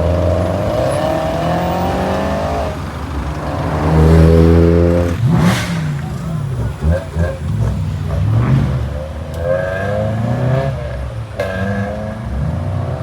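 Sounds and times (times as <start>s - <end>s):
car engine revving: 0.0s - 13.0s
other engines running: 0.0s - 13.0s.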